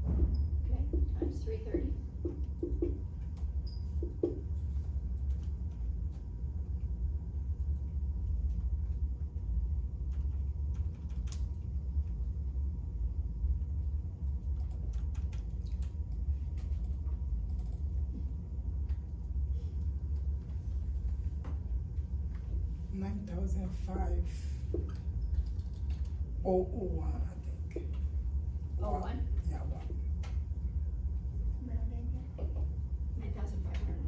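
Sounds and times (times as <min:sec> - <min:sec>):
low room rumble: 0:00.0 - 0:34.0.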